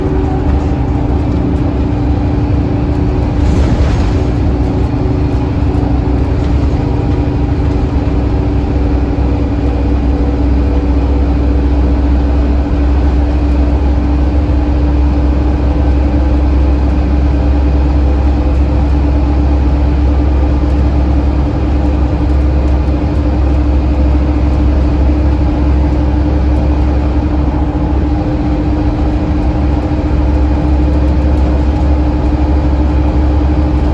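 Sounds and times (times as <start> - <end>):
bus engine droning: 0.0 - 33.9
constant whine: 0.0 - 33.9.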